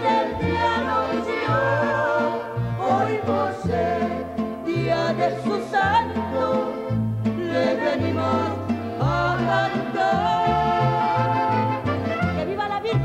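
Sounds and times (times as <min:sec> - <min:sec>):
violins: 0:00.0 - 0:13.0
woman singing with vibrato: 0:00.0 - 0:13.0.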